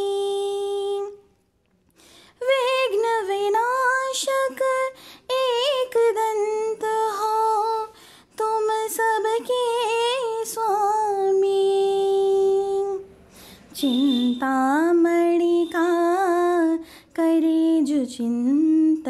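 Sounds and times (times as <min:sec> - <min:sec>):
woman singing: 0:00.0 - 0:01.3, 0:02.3 - 0:13.1, 0:13.7 - 0:19.0.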